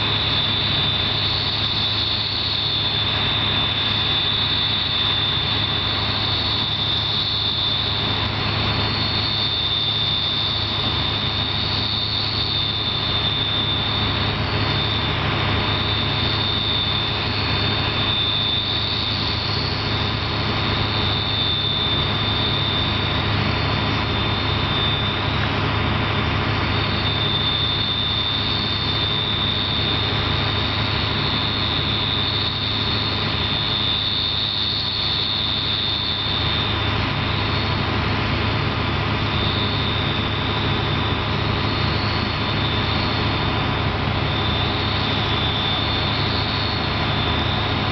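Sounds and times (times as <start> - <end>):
combine harvester engine drone: 0.0 - 47.9
high-pitched whine: 0.0 - 47.9.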